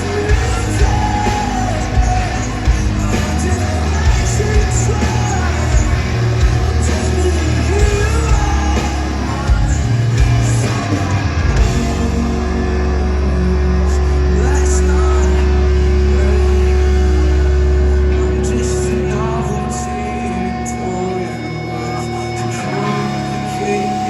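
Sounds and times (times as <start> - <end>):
bass line: 0.0 - 24.0
person singing: 0.0 - 24.0
rock band playing: 0.0 - 24.0.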